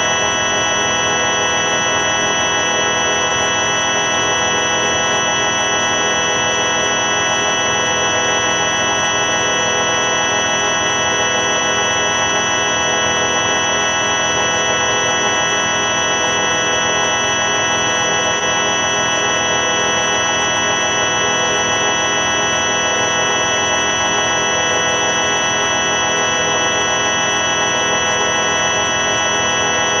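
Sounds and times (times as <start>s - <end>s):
dense electronic organ-like drone: 0.0s - 30.0s.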